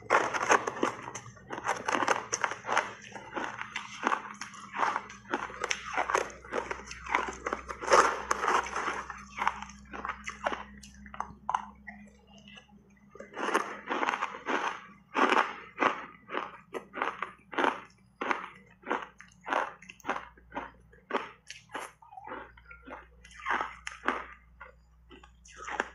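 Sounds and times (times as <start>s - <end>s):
chewing crunchy ice: 0.0s - 25.9s.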